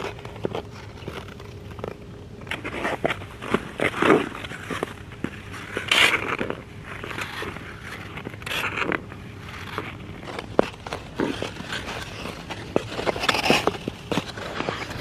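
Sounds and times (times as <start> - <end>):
skate blades scraping ice: 0.0 - 15.0.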